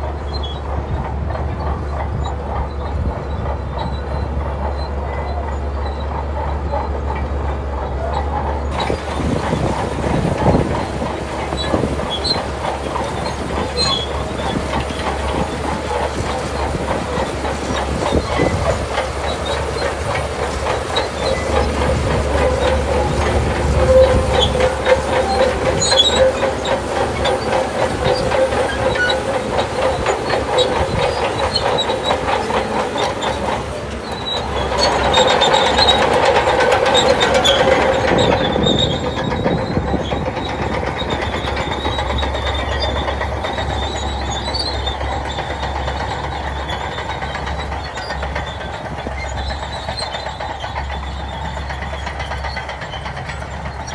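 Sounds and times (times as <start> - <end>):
bulldozer engine running: 0.0 - 53.9
steel tracks clattering: 0.0 - 53.9.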